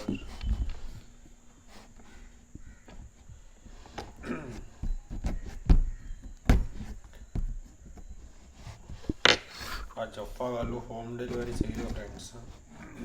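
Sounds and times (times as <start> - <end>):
harsh packaging rustle: 0.0 - 13.0
packaging knocks and thumps: 2.2 - 13.0.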